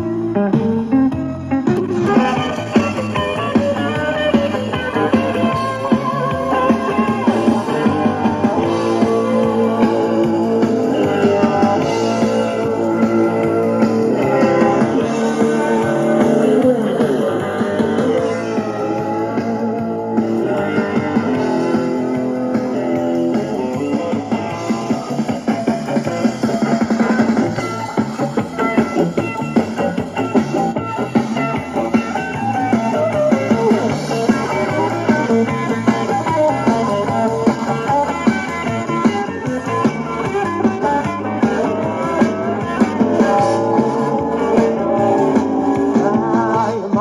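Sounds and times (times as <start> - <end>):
guitar rock music from cassette: 0.0 - 47.0.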